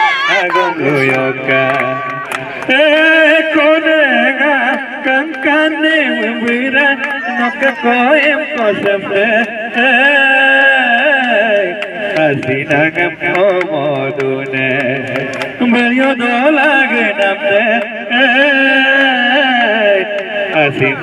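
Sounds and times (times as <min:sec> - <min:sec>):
man singing through loudspeaker: 0:00.0 - 0:21.0.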